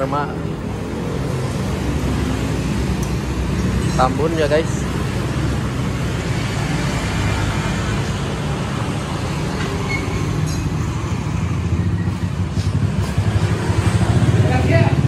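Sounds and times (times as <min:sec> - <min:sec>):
motorcycles in road traffic: 0:00.0 - 0:15.0.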